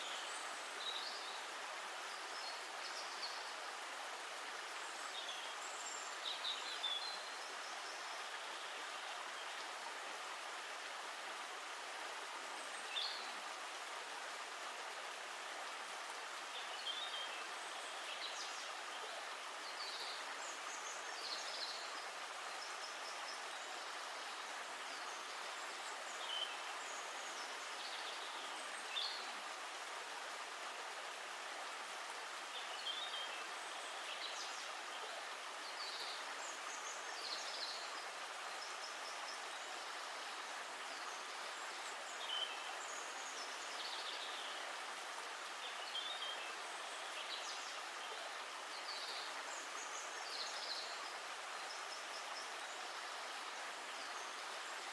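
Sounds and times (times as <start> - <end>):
stream water running: 0.0 - 54.9.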